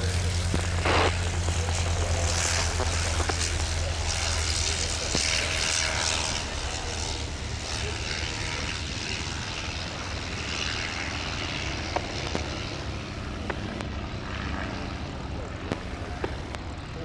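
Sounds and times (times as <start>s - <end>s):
propeller plane flying past: 0.0s - 17.0s.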